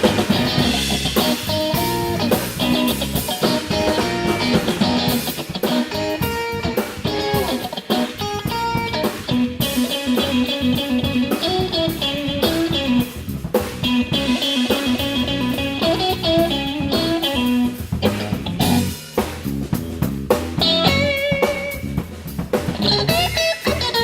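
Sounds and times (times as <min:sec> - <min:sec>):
electric guitar lead lines: 0:00.0 - 0:19.0, 0:20.5 - 0:24.0
bass guitar: 0:00.0 - 0:24.0
drum kit: 0:00.0 - 0:24.0.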